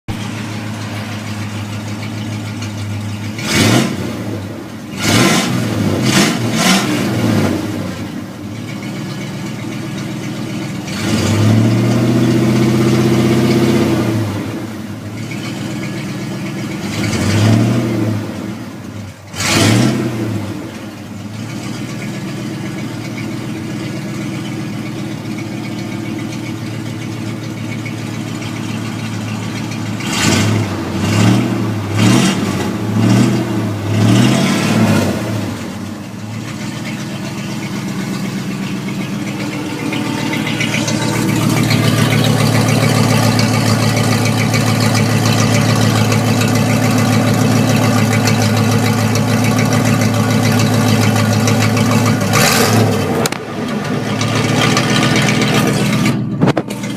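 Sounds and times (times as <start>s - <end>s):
truck engine idling and revving: 0.0s - 56.9s.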